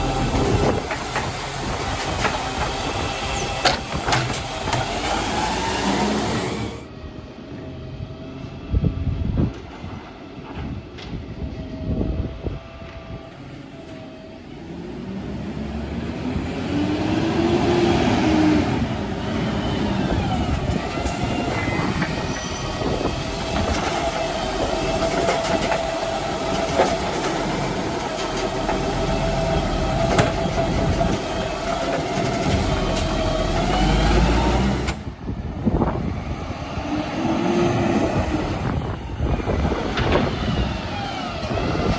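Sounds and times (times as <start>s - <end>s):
garbage truck engine: 0.0s - 41.9s
steady mechanical whine: 0.0s - 41.9s.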